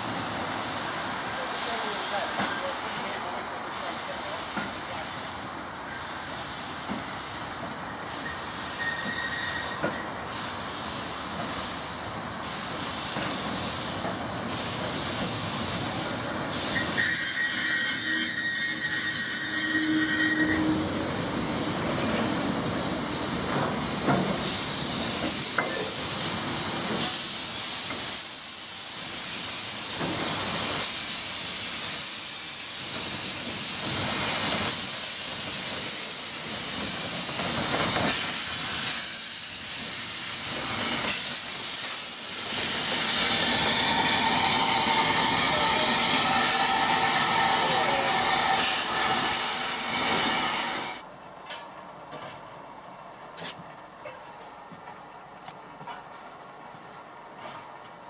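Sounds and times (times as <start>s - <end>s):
steam hissing: 0.0s - 51.0s
steam locomotive passing: 0.0s - 58.0s.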